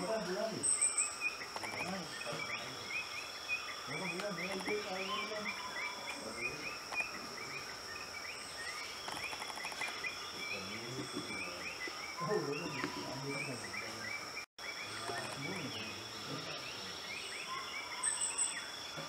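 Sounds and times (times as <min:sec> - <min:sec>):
insect drone: 0:00.0 - 0:19.0
small animals chirping: 0:00.6 - 0:18.5.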